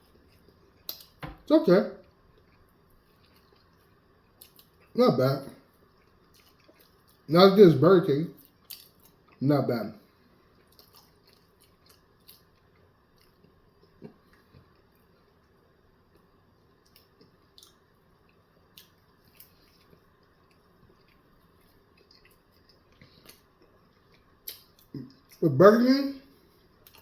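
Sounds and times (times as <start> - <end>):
chewing with mouth clicks: 0.0 - 1.2, 2.0 - 5.0, 5.6 - 7.3, 8.3 - 9.4, 10.1 - 25.4, 26.3 - 27.0.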